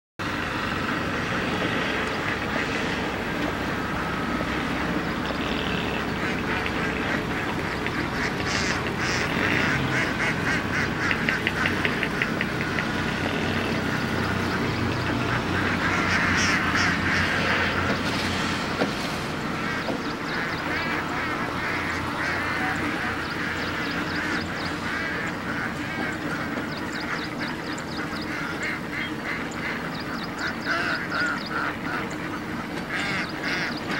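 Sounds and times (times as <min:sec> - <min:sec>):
flock of ducks quacking: 0:00.2 - 0:33.9.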